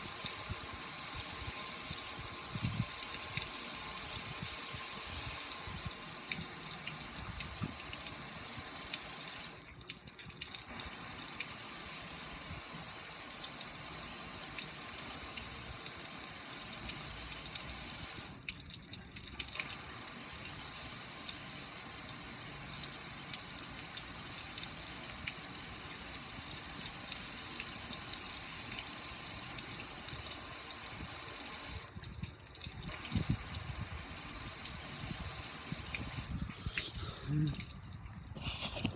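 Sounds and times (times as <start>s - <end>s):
water pouring over grill: 0.0s - 38.9s
water dripping onto ground: 0.1s - 38.4s.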